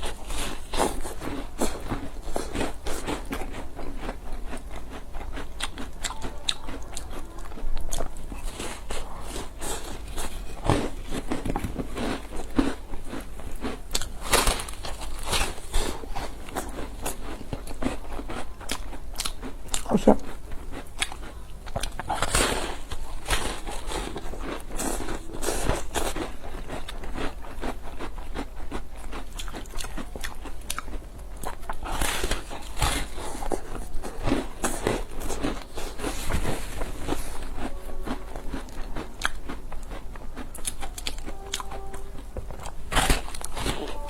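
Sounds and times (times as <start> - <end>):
person chewing crunchy food: 0.0 - 44.0.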